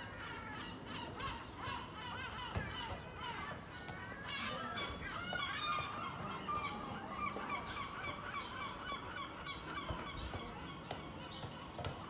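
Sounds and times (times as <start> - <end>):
birds honking: 0.0 - 12.0.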